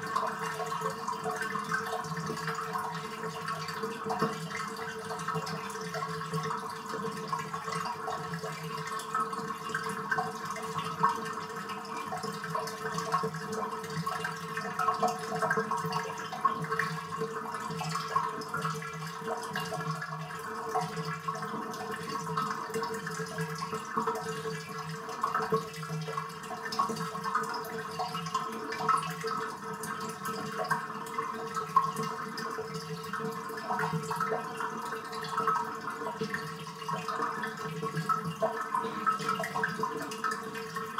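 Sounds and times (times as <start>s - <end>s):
water gurgling down drain: 0.0s - 40.9s.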